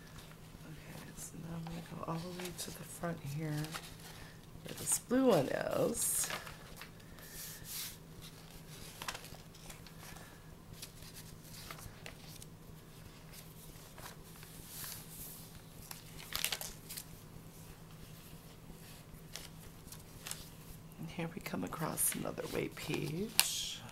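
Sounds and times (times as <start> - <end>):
faint steady hum: 0.0 - 23.9
paper pages turning and rustling: 1.0 - 20.8, 22.0 - 23.5.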